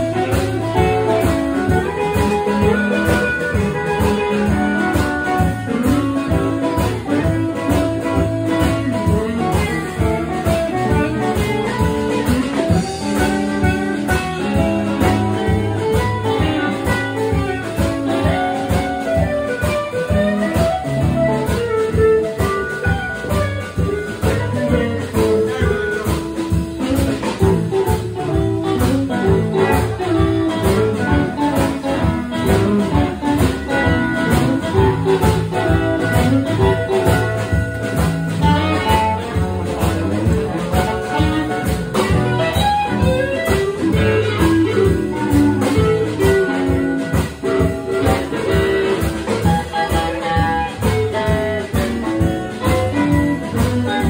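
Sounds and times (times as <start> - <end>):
electric guitars: 0.0 - 54.0
live blues band playing: 0.0 - 54.0.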